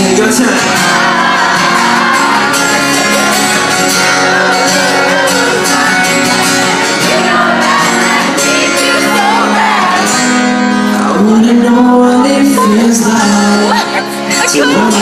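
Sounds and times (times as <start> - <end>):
crowd singing and shouting: 0.0 - 15.0
pop song with guitar: 0.0 - 15.0.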